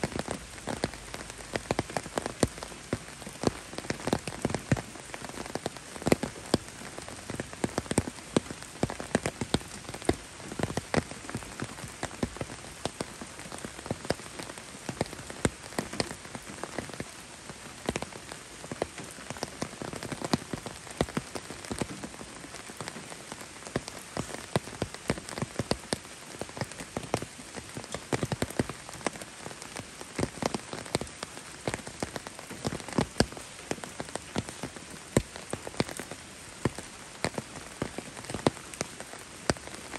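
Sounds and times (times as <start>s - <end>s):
sharp raindrop taps: 0.0s - 39.9s
steady rain hiss: 0.0s - 39.9s.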